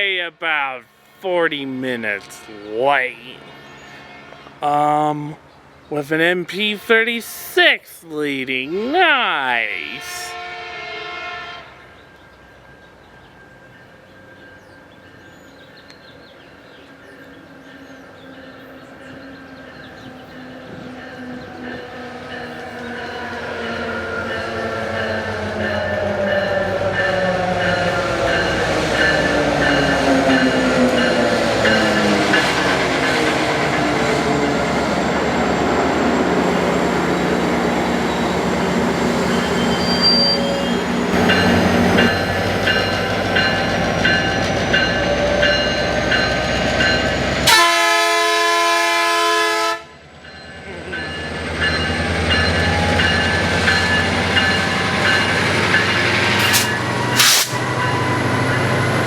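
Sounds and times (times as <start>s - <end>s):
diesel train passing: 0.0s - 59.0s.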